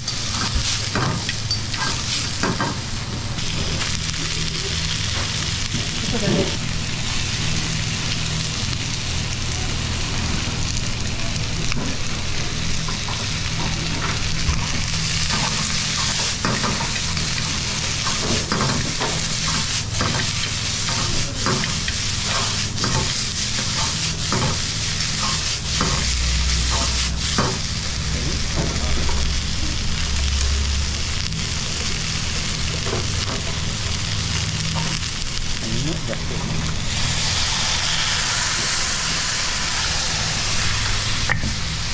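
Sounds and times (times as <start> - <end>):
steady low hum: 0.0 - 41.9
vegetables sizzling in a wok: 0.0 - 41.9.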